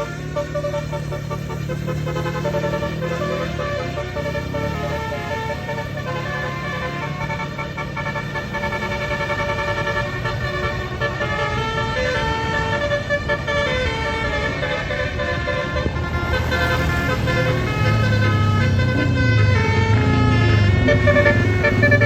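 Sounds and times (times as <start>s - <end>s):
bus engine running: 0.0s - 22.0s
musical air horns playing a tune: 0.0s - 22.0s.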